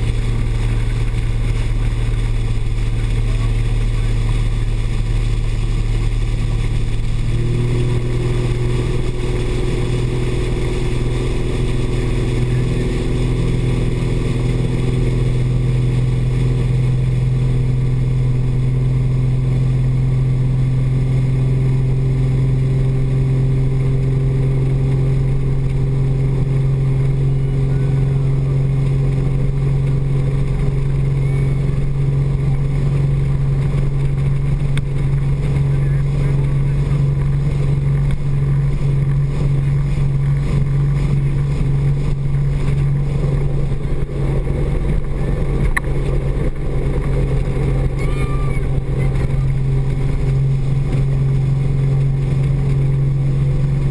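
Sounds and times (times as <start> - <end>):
speedboat engine drone: 0.0 - 53.9
water rushing along hull: 0.0 - 53.9.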